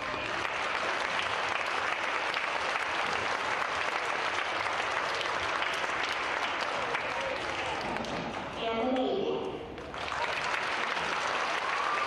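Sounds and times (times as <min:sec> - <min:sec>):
audience applauding: 0:00.0 - 0:08.6, 0:09.8 - 0:12.0.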